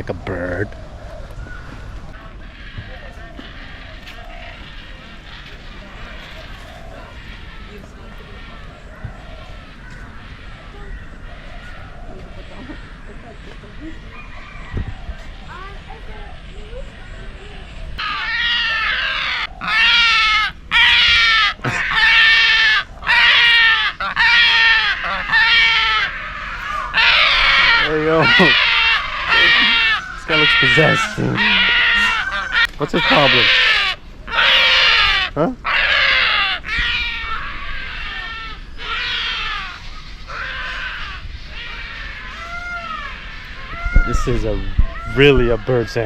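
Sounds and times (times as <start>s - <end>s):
large bird squawking harshly: 1.5s - 16.5s, 17.9s - 46.0s.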